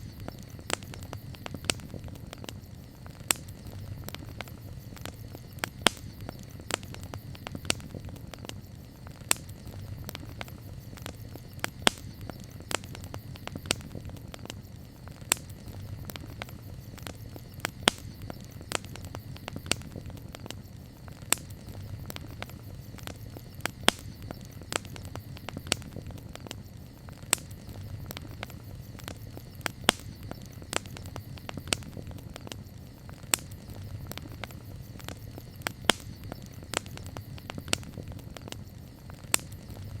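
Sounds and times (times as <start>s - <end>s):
campfire pops and crackles: 0.0s - 40.0s
low rumble of flames: 0.0s - 40.0s.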